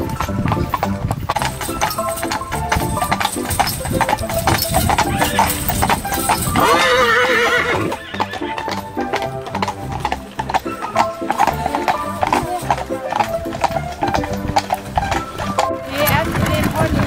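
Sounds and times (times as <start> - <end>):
horse whinnying: 0.0 - 16.2
horse hooves clip-clopping on asphalt: 0.0 - 17.0
music: 0.0 - 17.0.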